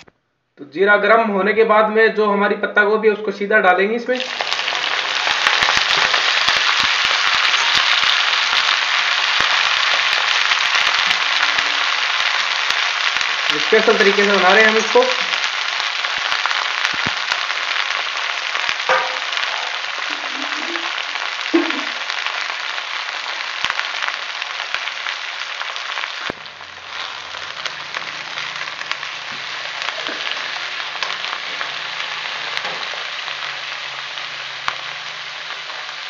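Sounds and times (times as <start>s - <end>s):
cabbage sizzling in wok: 4.1s - 36.0s.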